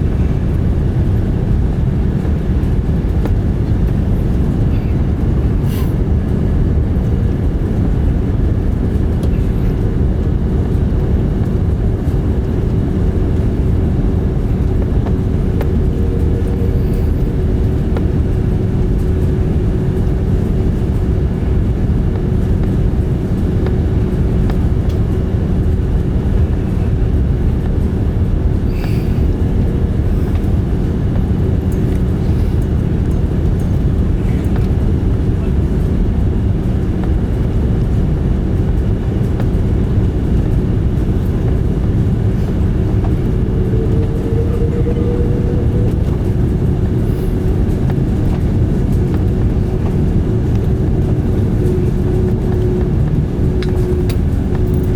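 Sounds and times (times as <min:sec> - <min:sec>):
airliner cabin engine drone: 0:00.0 - 0:54.9
constant low hum: 0:00.0 - 0:54.9.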